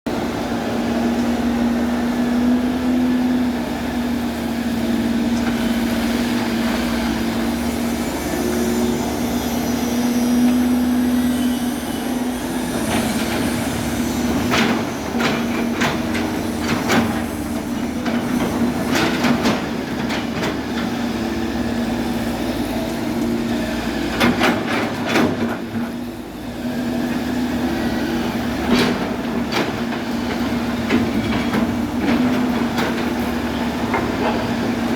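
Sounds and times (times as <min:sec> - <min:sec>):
excavator engine humming: 0:00.1 - 0:34.9.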